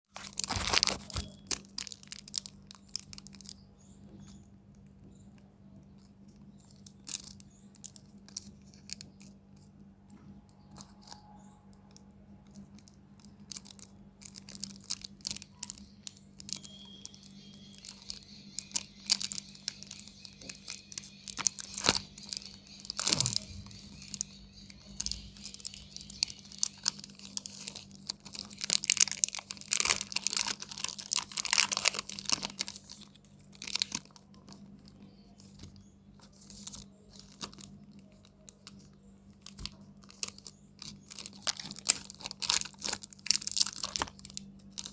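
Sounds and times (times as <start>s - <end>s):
candy wrappers crinkling: 0.1s - 4.9s, 5.9s - 9.9s, 10.5s - 44.9s.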